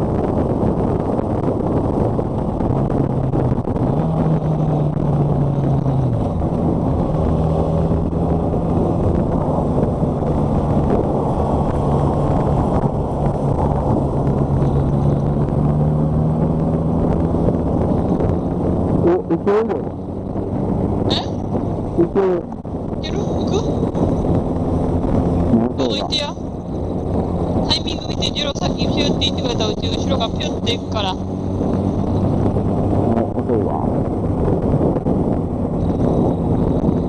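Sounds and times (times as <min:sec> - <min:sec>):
motorcycle engine hum: 0:00.0 - 0:37.0
wind and road rush: 0:00.0 - 0:37.0.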